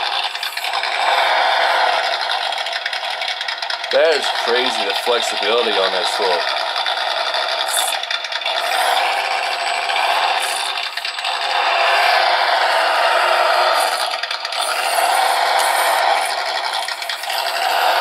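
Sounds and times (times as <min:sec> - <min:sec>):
small chassis rattling: 0:00.0 - 0:18.0
small motor and gears whirring: 0:00.0 - 0:18.0.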